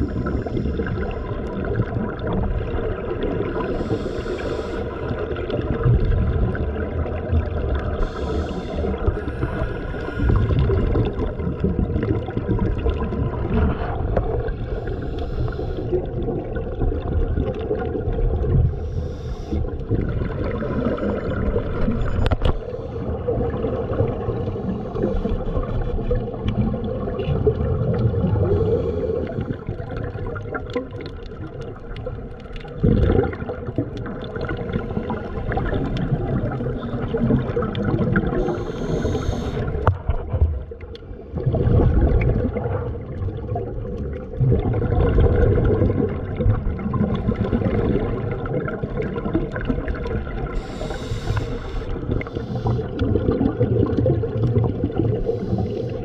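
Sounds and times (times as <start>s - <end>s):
water gurgling and sloshing: 0.0s - 56.0s.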